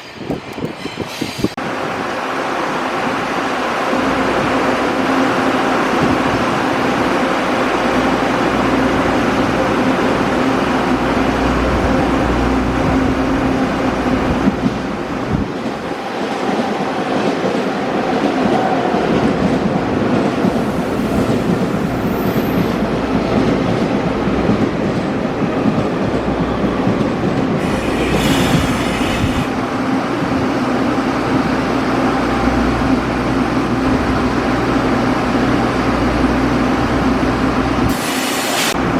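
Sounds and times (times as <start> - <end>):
train wheels on rails: 3.0 - 38.9.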